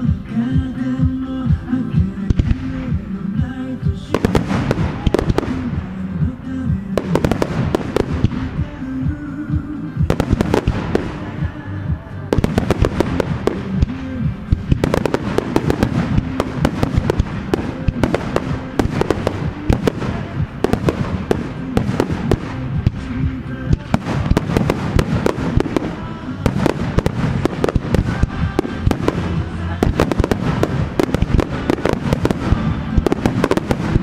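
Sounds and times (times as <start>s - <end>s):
fireworks bursting: 0.0s - 34.0s
music: 0.0s - 34.0s.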